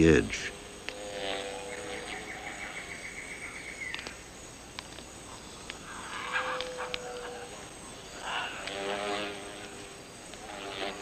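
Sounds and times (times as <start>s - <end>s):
background hiss: 0.0s - 11.0s
insect trilling: 0.0s - 11.0s.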